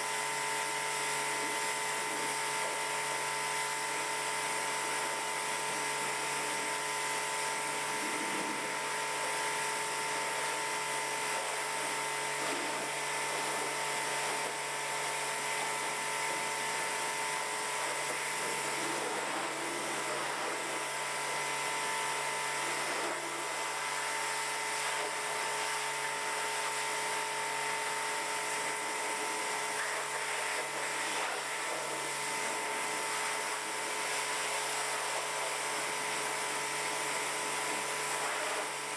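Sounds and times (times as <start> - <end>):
pressure washer motor whine: 0.0 - 38.9
water jet hissing: 7.7 - 38.9.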